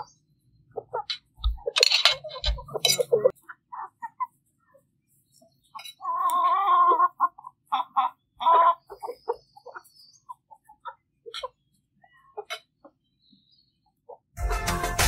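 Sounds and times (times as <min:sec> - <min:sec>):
hens clucking and calling: 0:00.0 - 0:13.0.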